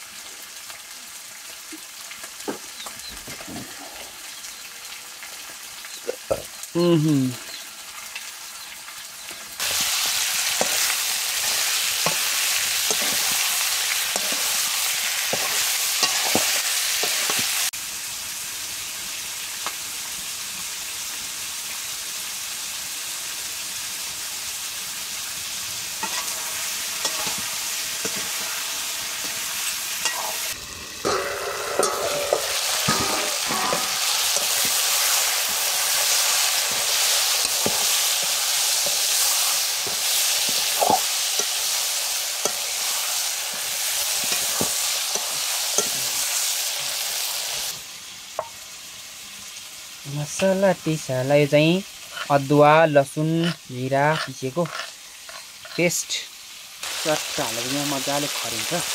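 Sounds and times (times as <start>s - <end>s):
food sizzling in hot oil: 0.0s - 58.9s.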